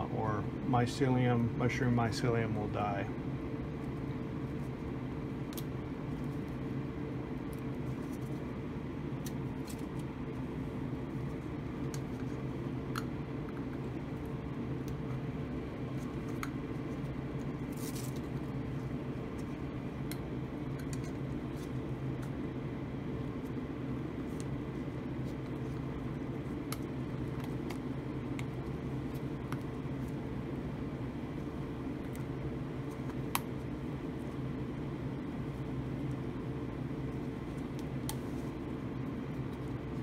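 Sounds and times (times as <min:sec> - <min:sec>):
blower humming: 0:00.0 - 0:40.0.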